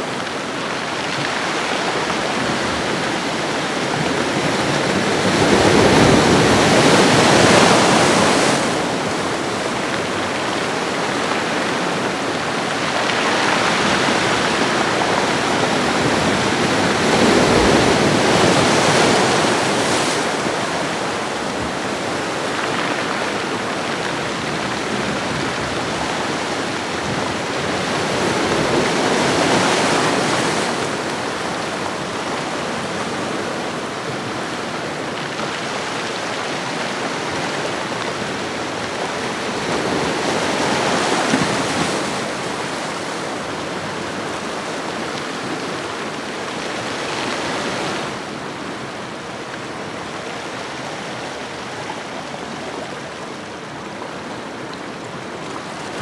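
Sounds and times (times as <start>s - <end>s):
ocean waves on shore: 0.0s - 56.0s.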